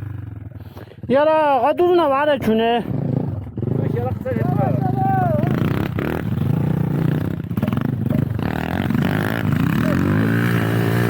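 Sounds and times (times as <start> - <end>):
motorcycle engine revving: 0.0 - 0.8, 1.8 - 11.0.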